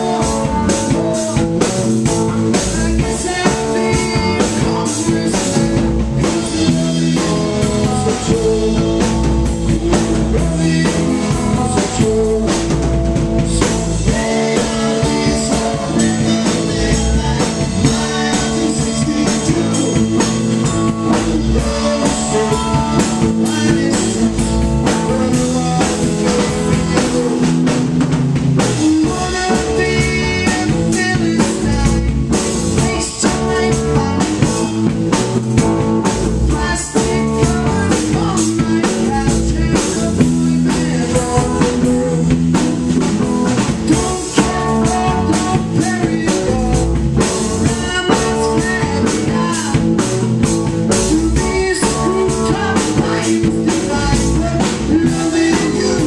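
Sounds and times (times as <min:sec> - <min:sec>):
man singing into a microphone: 0:00.0 - 0:28.0, 0:28.8 - 0:56.0
drum kit: 0:00.0 - 0:56.0
electric guitars: 0:00.0 - 0:56.0.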